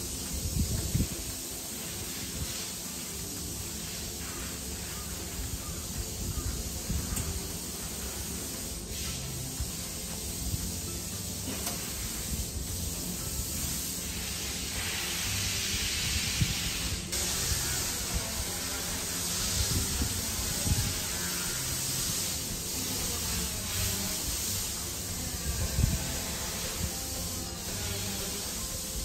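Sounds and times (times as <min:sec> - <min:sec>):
hiss of gas flowing: 0:00.0 - 0:29.0.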